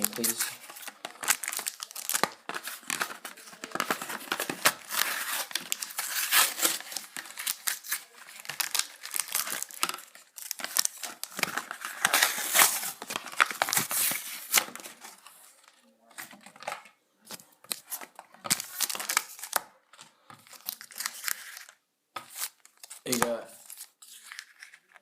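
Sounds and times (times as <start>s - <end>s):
plastic blister pack crinkling: 0.0s - 25.0s.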